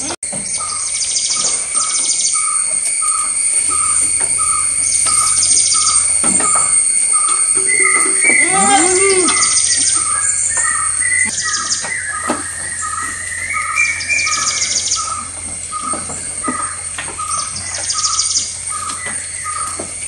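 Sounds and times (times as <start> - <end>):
birds chirping: 0.0 - 20.0
high-pitched whine: 0.0 - 20.0.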